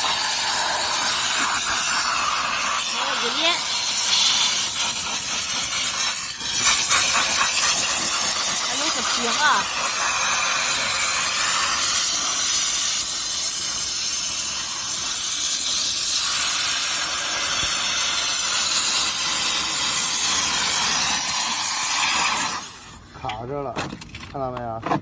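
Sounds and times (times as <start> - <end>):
steam spray gun hissing: 0.0 - 23.0.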